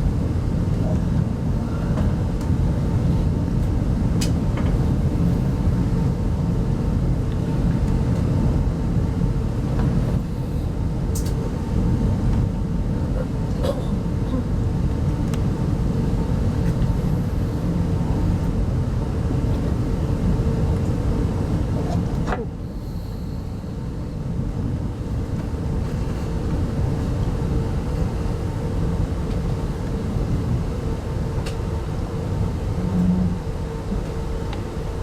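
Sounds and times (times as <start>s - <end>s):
faint hum: 0.0s - 35.0s
railway coach rumble: 0.0s - 35.0s.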